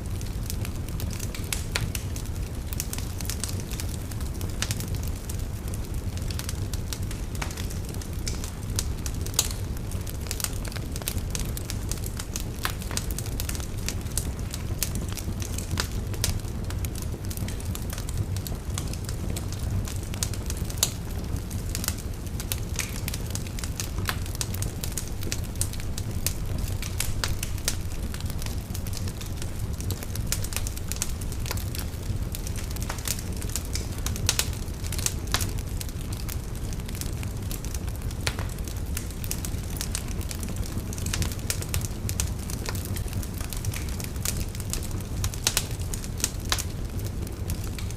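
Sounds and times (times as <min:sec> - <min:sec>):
fireplace fire crackling and popping: 0:00.0 - 0:47.9
low rumble of flames: 0:00.0 - 0:47.9.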